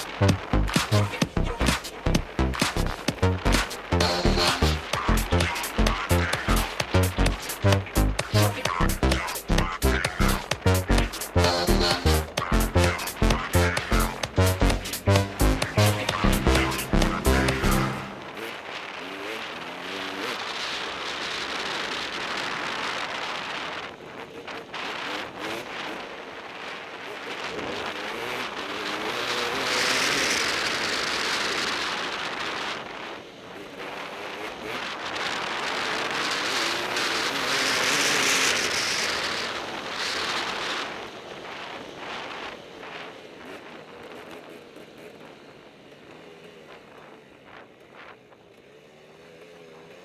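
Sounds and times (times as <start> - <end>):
dirt bike engine revving: 0.0 - 47.2.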